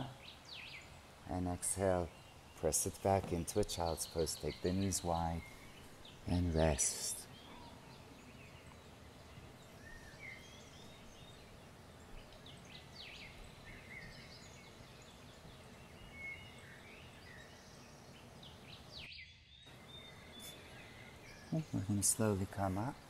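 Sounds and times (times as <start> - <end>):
birds chirping: 0.0 - 23.0
faint steady hiss: 0.0 - 23.0.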